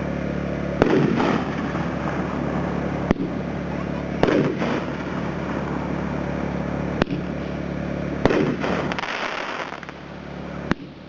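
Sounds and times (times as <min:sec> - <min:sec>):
firework bangs: 0:00.0 - 0:11.0
firework rumble: 0:00.0 - 0:11.0.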